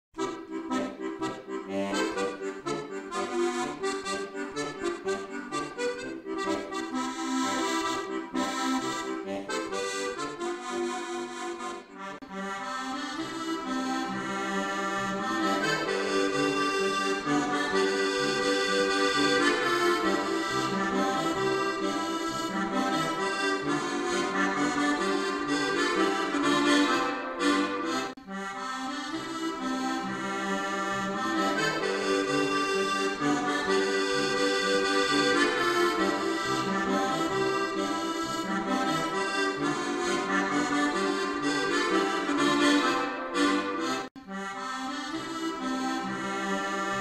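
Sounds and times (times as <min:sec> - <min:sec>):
accordion background music: 0:00.2 - 0:47.0.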